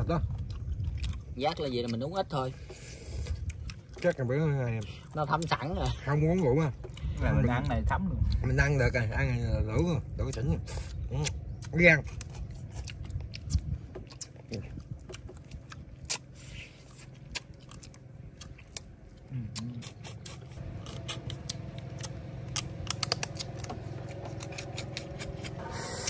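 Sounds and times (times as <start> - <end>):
low steady hum: 0.0 - 26.0
people chewing: 0.0 - 26.0.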